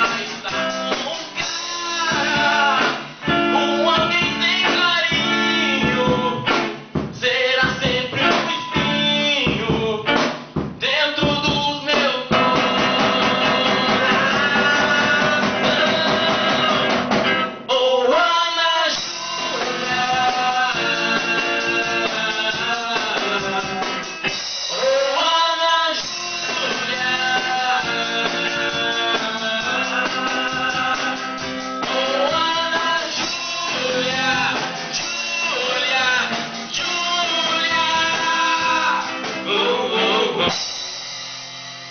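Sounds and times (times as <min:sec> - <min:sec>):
person singing: 0:00.0 - 0:10.2, 0:10.8 - 0:40.6
strummed guitar chords: 0:00.0 - 0:17.8, 0:19.0 - 0:25.2, 0:26.0 - 0:41.9.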